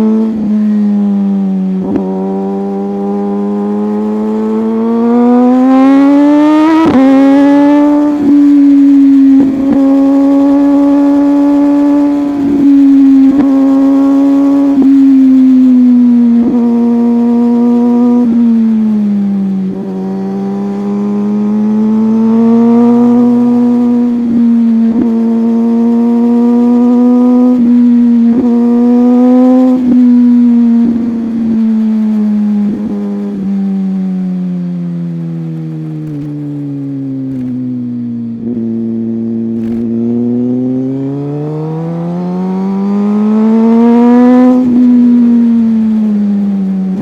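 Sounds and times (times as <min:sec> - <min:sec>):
motorbike engine at high revs: 0:00.0 - 0:47.0.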